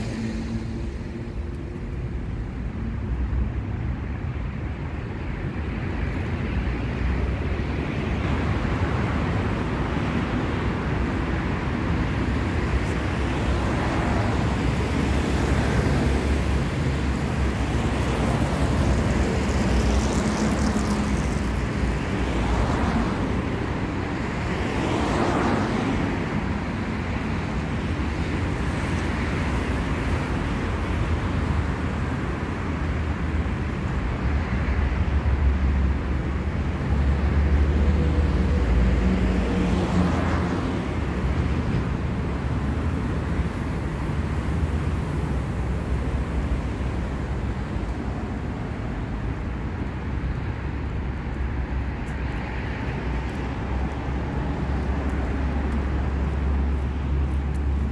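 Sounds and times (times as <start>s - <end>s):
low rumble of traffic: 0.0s - 57.9s
vehicles passing: 0.0s - 57.9s.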